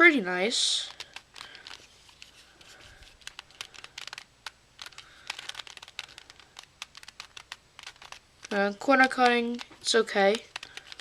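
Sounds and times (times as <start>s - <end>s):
plastic puzzle clicking: 0.8s - 11.0s.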